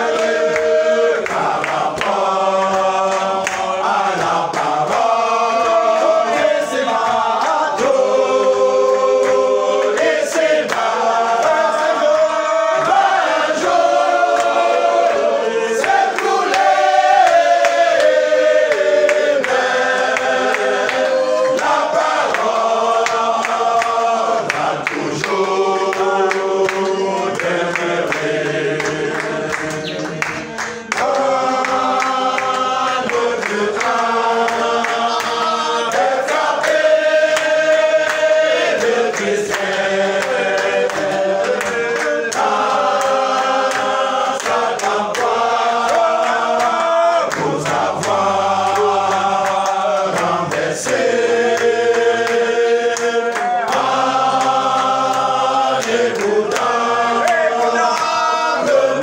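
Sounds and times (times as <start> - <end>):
congregation singing: 0.0 - 59.0
hand-clapping: 0.0 - 59.0.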